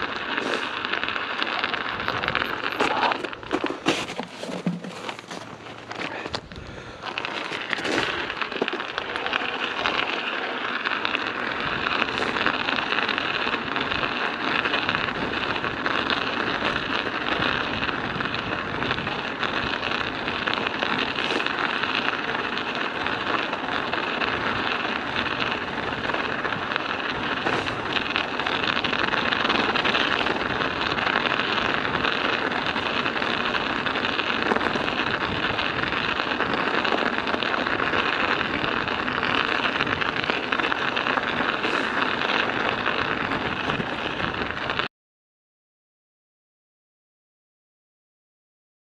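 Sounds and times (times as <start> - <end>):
studded bicycle tyres on ice: 0.0 - 44.9.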